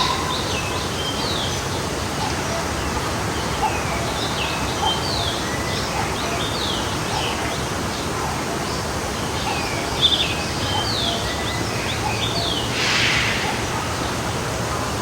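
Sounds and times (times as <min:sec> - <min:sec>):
songbirds chirping and singing: 0:00.0 - 0:14.4
stream flowing: 0:00.0 - 0:15.0.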